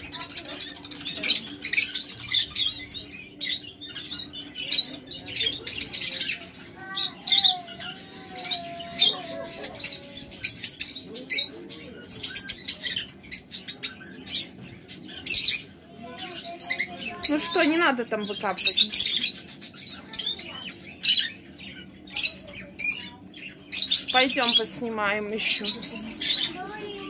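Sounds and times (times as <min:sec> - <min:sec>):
parrots chattering and chirping: 0:00.0 - 0:27.0.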